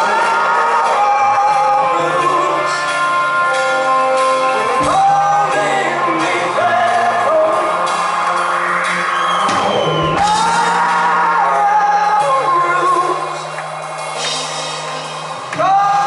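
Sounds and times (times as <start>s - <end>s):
man singing long notes: 0.0s - 8.8s, 9.9s - 13.6s, 15.5s - 16.0s
live rock band playing: 0.0s - 16.0s
steady bass line: 0.0s - 16.0s.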